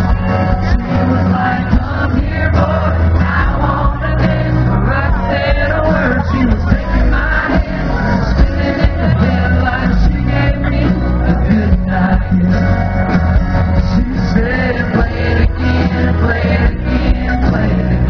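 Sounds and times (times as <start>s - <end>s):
live country music: 0.0s - 18.0s
man singing: 0.6s - 12.9s, 13.6s - 18.0s.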